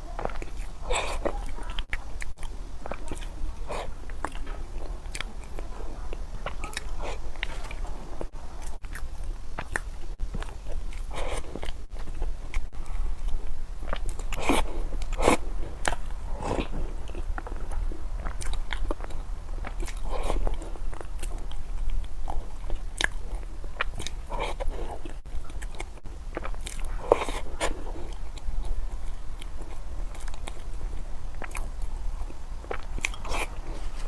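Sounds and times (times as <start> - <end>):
crunchy biting and chewing: 0.0 - 34.0.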